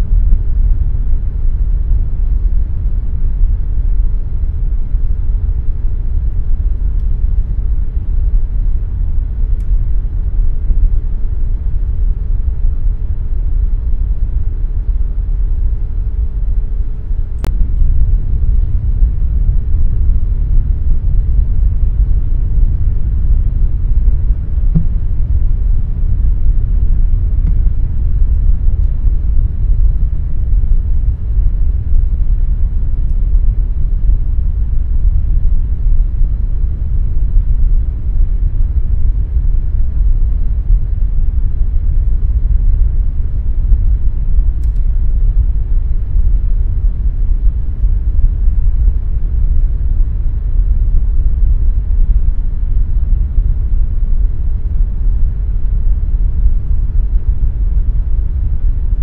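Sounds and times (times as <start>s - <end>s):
air conditioner rumbling whoosh: 0.0s - 59.0s.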